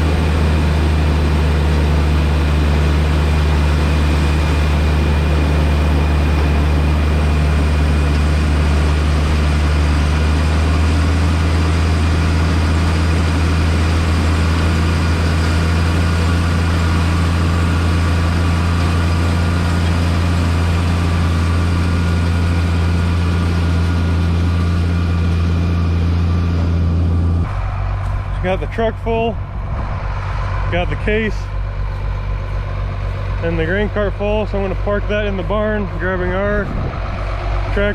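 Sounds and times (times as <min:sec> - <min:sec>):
heavy machinery engine drone: 0:00.0 - 0:37.9.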